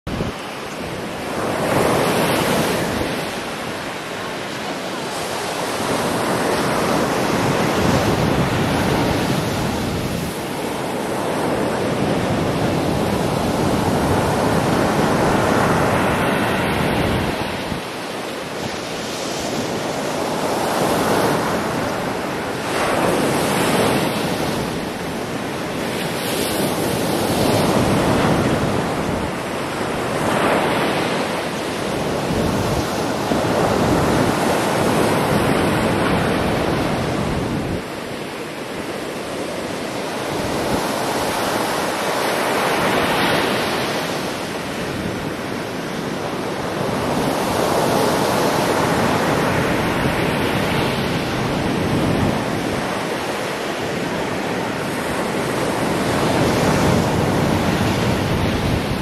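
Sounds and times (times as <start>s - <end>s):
surf breaking on beach: 0.1s - 59.0s.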